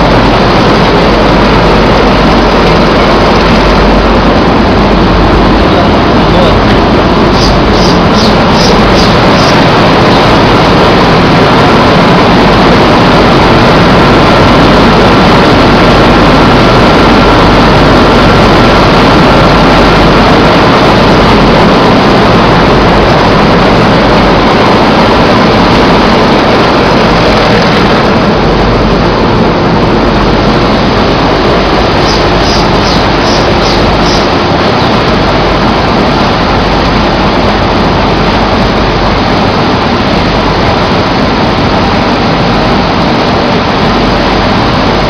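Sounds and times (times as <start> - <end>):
mill machinery running: 0.0 - 45.0.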